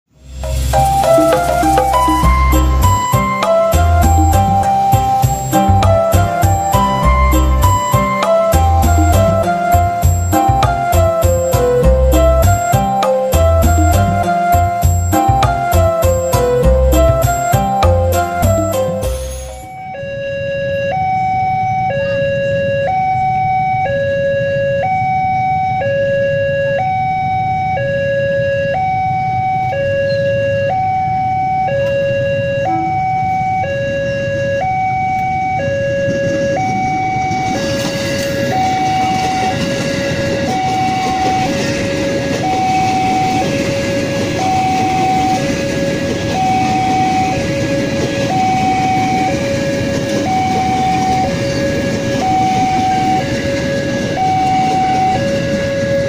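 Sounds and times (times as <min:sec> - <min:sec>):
electric train rumbling past: 0:00.1 - 0:56.0
level crossing two-tone alarm: 0:00.8 - 0:56.0.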